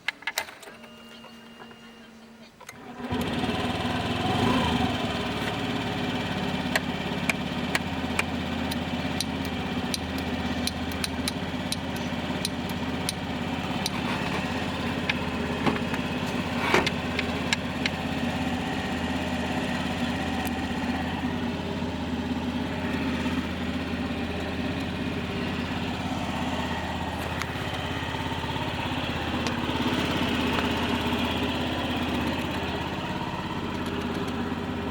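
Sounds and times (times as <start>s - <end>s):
scooter engine starting and idling: 0.1s - 34.9s.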